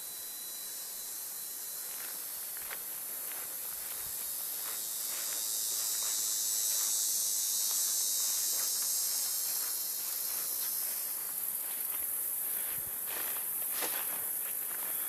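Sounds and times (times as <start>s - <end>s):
insects buzzing chorus: 0.0s - 15.0s.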